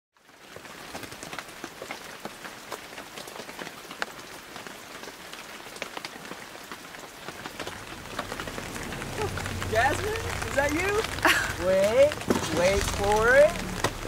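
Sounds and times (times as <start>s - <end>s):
raindrops ticking: 0.2s - 14.0s
steady rain hiss: 0.2s - 14.0s.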